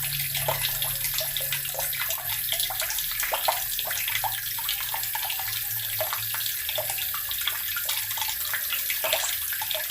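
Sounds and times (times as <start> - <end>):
tap water running and splashing: 0.0 - 9.9.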